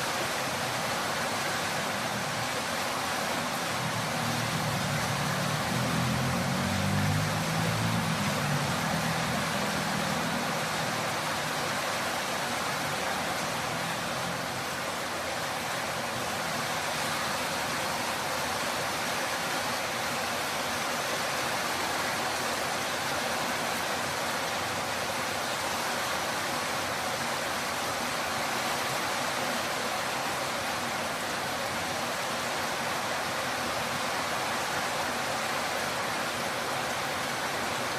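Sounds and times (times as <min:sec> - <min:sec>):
torrential rain hiss: 0:00.0 - 0:37.9.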